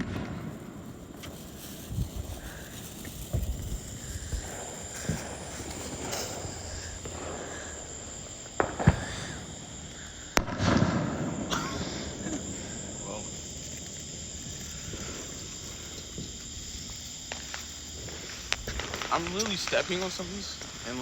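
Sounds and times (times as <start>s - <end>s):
crickets chirring: 0.0s - 21.0s
firecrackers popping: 0.0s - 21.0s.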